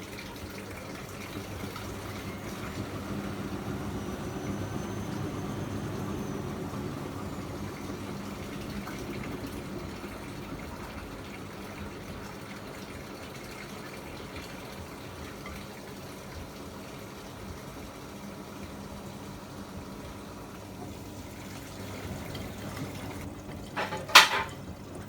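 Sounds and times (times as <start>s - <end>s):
washing machine hum: 0.0s - 25.0s
water gushing in washing machine: 0.0s - 25.0s.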